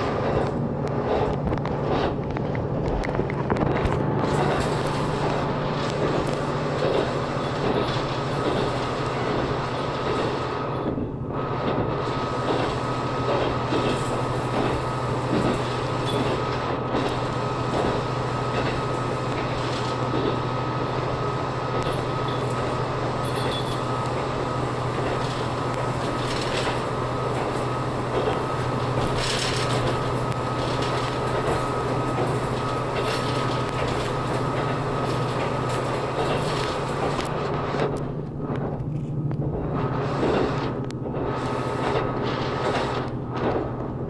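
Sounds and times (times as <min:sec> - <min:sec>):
diesel engine drone: 0:00.0 - 0:44.0
wheels rumbling on rail: 0:00.0 - 0:44.0.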